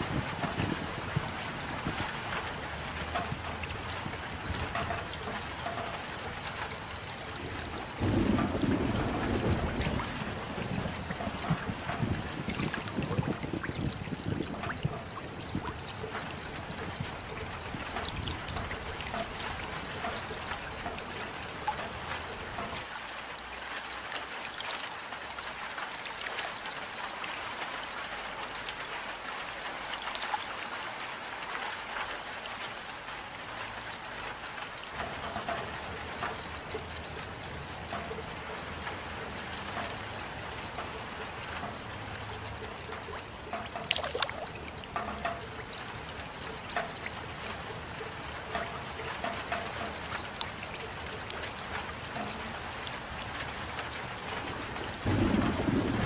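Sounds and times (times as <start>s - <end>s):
raindrops ticking: 0.0s - 56.0s
steady rain falling: 0.0s - 56.0s
water trickling: 0.0s - 56.0s.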